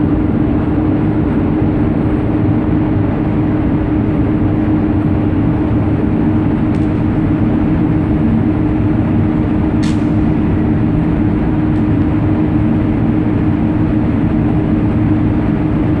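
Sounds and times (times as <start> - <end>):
droning hum: 0.0 - 16.0
low rumble: 0.0 - 16.0.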